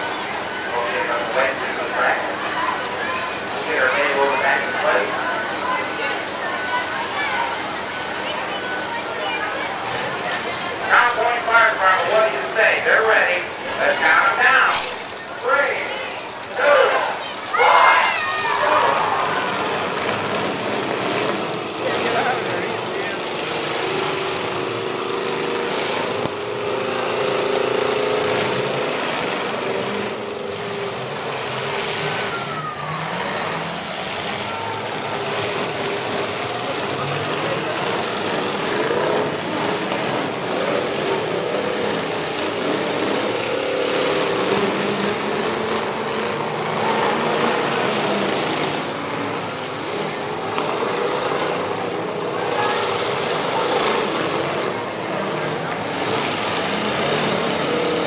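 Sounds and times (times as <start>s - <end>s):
car engines revving: 0.0s - 58.0s
crowd murmur: 0.0s - 58.0s.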